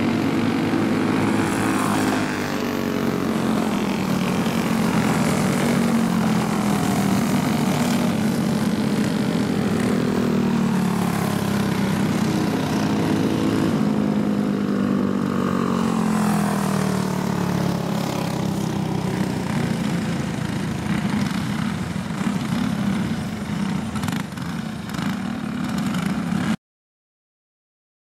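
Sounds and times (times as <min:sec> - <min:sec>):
kart engines running: 0:00.0 - 0:26.6.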